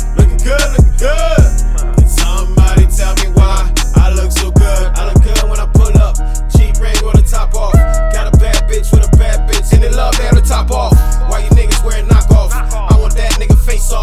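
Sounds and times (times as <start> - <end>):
hip hop track: 0.0 - 14.0.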